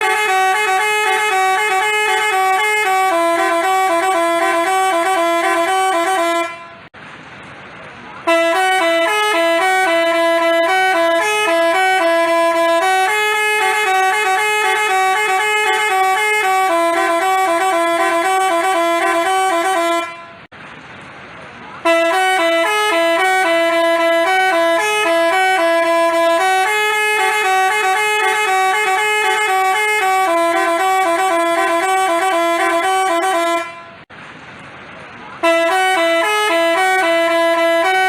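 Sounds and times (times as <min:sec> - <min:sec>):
musical bus horn playing tune: 0:00.0 - 0:06.9, 0:08.2 - 0:20.5, 0:21.8 - 0:34.1, 0:35.4 - 0:38.0.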